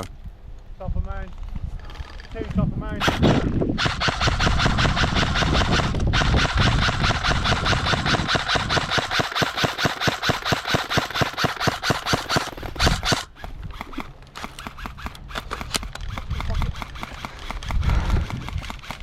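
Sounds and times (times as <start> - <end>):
airsoft rifle full-auto burst: 3.0 - 19.0.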